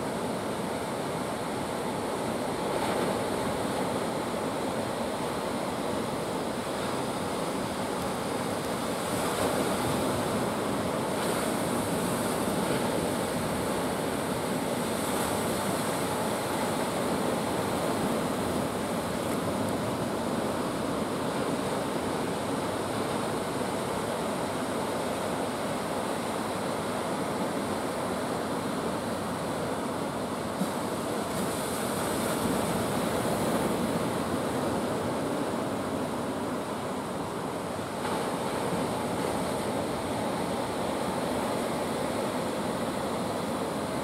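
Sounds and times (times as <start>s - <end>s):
ocean surf breaking: 0.0s - 44.0s.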